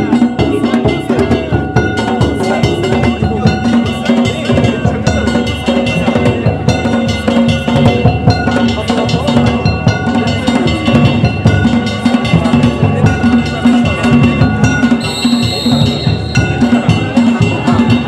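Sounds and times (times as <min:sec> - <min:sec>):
ringing metal hand gongs: 0:00.0 - 0:18.0
taiko drums beating fast: 0:00.0 - 0:18.0.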